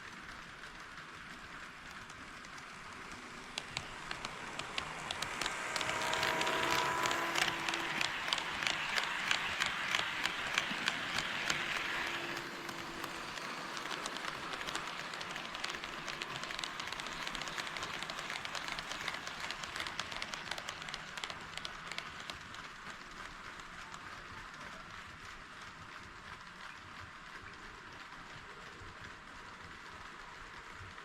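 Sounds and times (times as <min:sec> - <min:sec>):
model train wheels clicking: 0:00.0 - 0:31.0.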